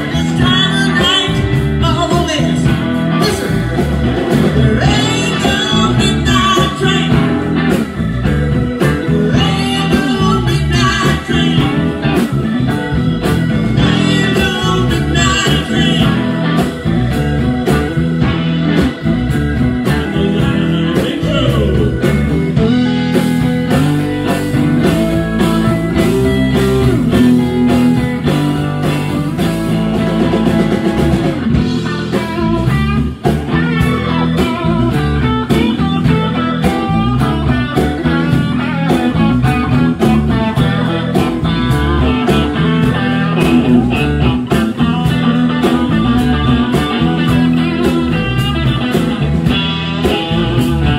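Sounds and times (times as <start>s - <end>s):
live blues band playing: 0.0s - 50.9s.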